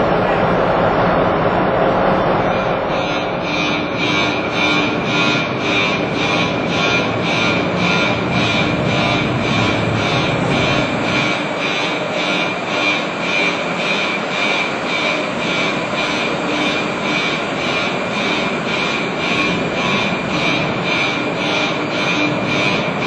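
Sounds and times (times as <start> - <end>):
electric locomotive machinery humming: 0.0 - 23.0.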